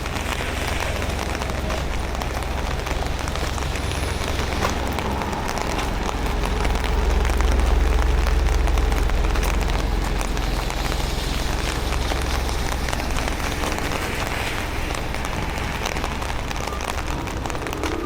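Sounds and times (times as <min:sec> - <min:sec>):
train low rumble: 0:00.0 - 0:18.0
train rushing rattle: 0:00.0 - 0:18.0.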